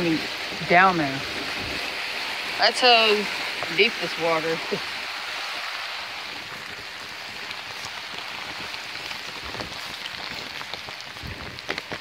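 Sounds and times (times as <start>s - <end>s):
rain pattering on an umbrella: 0.0s - 12.0s.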